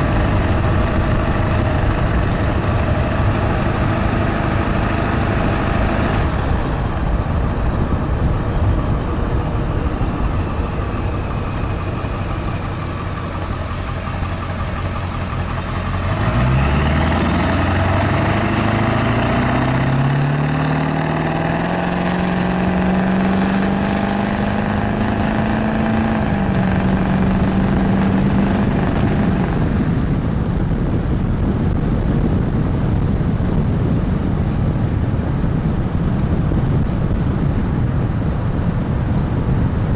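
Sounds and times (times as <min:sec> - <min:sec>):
diesel engine accelerating: 0:00.0 - 0:39.9.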